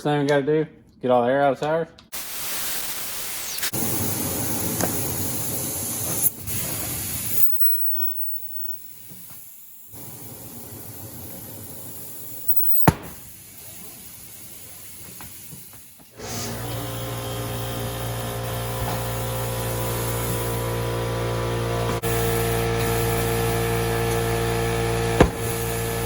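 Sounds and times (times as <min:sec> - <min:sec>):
air hissing out of tire: 0:02.2 - 0:21.1, 0:22.0 - 0:26.0.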